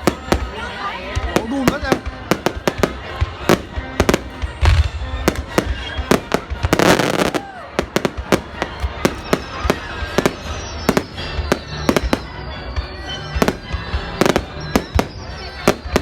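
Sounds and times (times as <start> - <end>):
fireworks bangs and cracks: 0.0 - 16.0
low rumble of fireworks barrage: 0.0 - 16.0.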